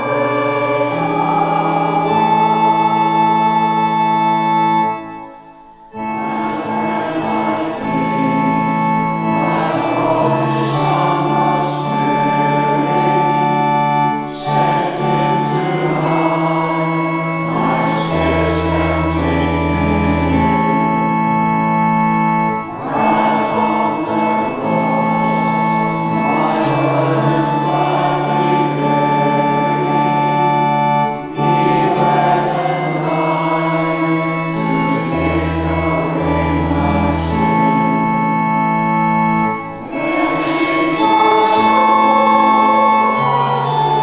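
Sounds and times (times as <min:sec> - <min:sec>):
church organ chords: 0:00.0 - 0:44.0
congregation singing a hymn: 0:00.0 - 0:44.0.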